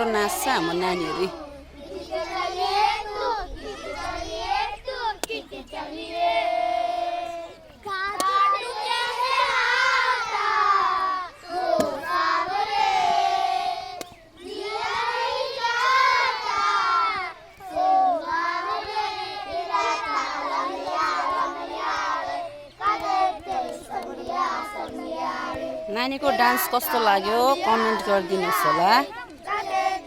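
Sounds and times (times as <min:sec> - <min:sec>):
young children shouting and singing: 0:00.0 - 0:30.0.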